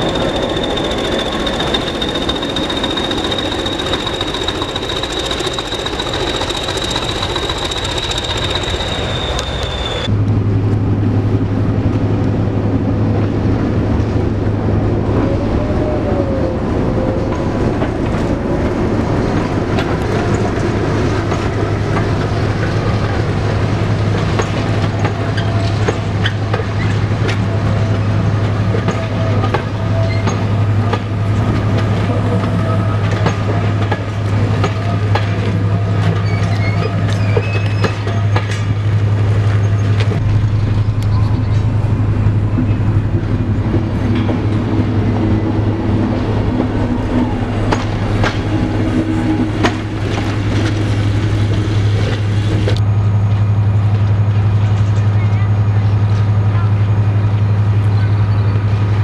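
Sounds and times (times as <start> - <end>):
train wheels clicking over rails: 0.0 - 10.1, 17.2 - 55.2
diesel locomotive drone: 0.0 - 59.0.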